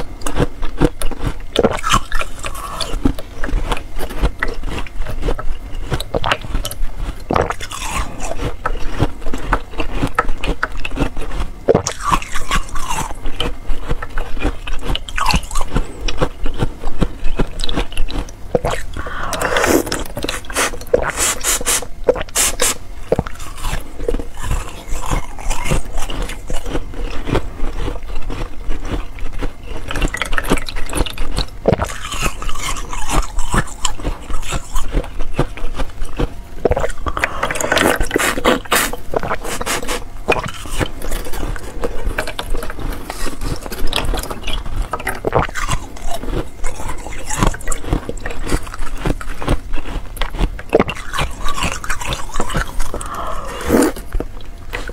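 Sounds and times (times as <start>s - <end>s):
chewing and crunching ice: 0.0s - 54.9s.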